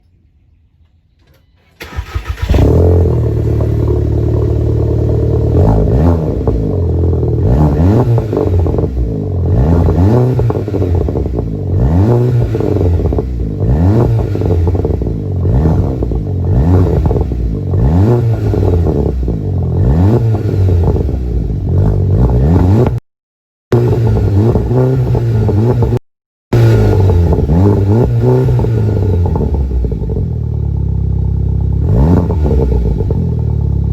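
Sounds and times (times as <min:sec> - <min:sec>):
car engine starting: 0:01.2 - 0:23.0, 0:23.7 - 0:26.0, 0:26.6 - 0:33.9
exhaust crackles and burbles: 0:01.2 - 0:23.0, 0:23.7 - 0:33.9
car engine revving: 0:01.8 - 0:23.0, 0:23.7 - 0:33.9.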